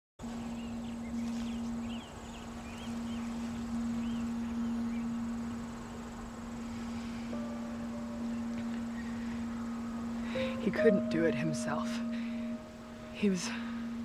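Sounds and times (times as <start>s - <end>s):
birds chirping: 0.2s - 14.0s
steady low drone: 0.2s - 14.0s.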